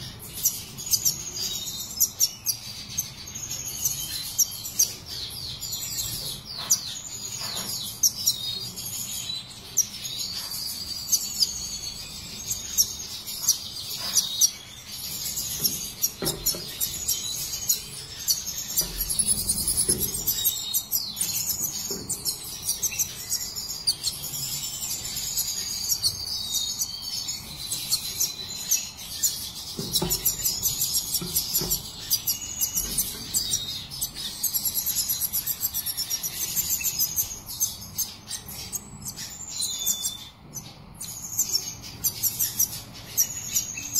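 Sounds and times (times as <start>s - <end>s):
finches chirping and twittering: 0.0s - 43.9s.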